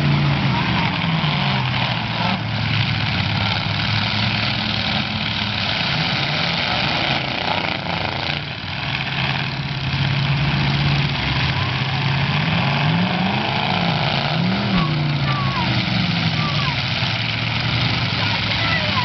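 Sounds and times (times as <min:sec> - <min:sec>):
car engines droning: 0:00.0 - 0:19.0
wheels spinning in mud: 0:00.0 - 0:19.0.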